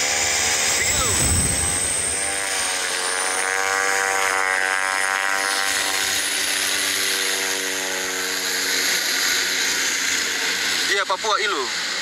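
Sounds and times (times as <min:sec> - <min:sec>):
propeller plane passing: 0:00.0 - 0:12.0.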